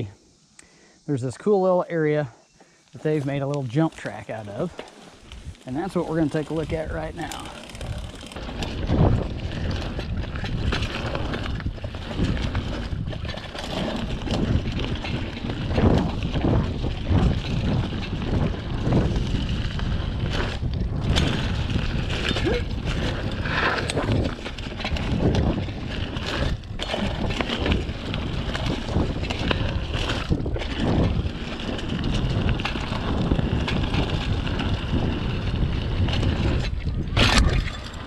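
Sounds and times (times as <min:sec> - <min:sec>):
bike tyres on dirt trail: 0:00.0 - 0:38.0
bike knocking and rattling: 0:03.1 - 0:38.0
wind buffeting microphone: 0:03.1 - 0:38.0.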